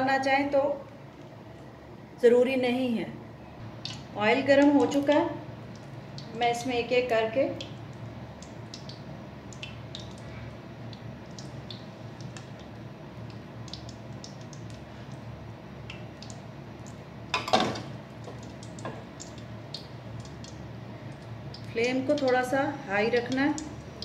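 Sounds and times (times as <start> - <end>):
hot oil crackling and popping: 3.6 - 24.0.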